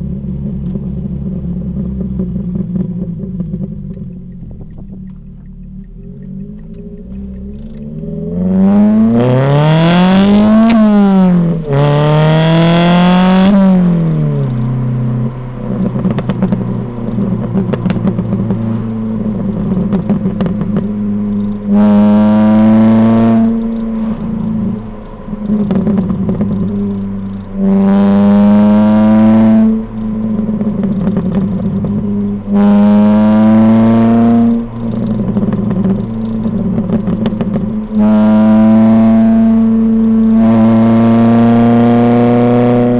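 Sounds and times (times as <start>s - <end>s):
car exhaust revving: 0.0s - 42.9s
exhaust crackling and popping: 0.0s - 42.9s.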